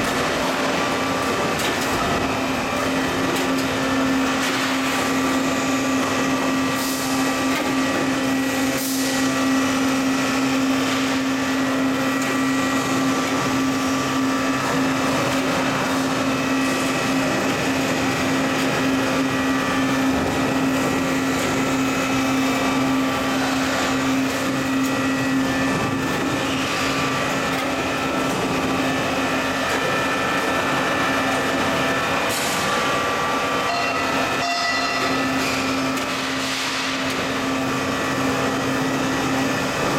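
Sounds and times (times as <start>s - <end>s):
extruder machine drone: 0.0s - 39.9s.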